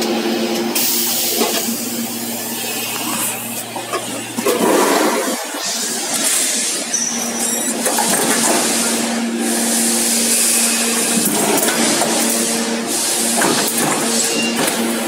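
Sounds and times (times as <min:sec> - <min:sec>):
factory background noise: 0:00.0 - 0:15.0
machine hum: 0:00.0 - 0:15.0.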